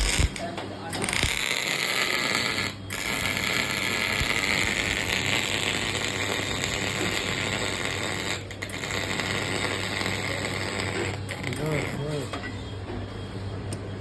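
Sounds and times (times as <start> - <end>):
welding arc crackling: 0.0 - 12.2.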